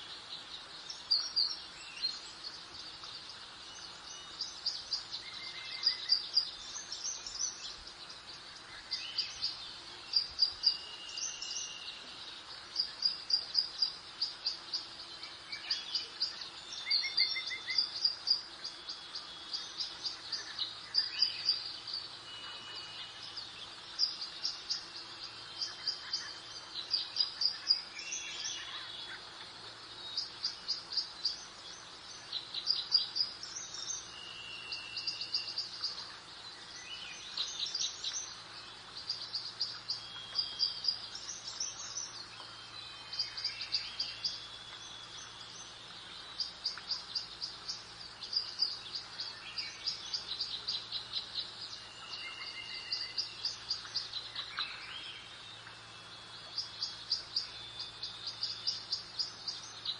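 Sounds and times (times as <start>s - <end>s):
soft background hiss: 0.0s - 59.9s
songbirds chirping: 0.0s - 59.9s.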